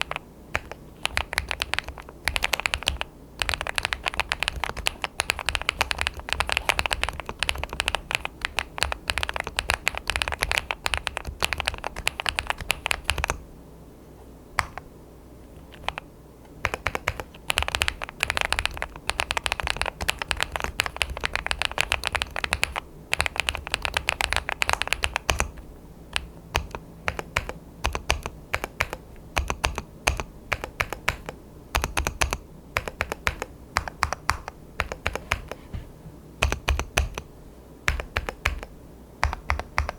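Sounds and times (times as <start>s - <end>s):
mechanical keyboard keystroke clicks: 0.0s - 13.4s, 16.6s - 35.6s, 36.4s - 37.3s, 37.9s - 39.9s.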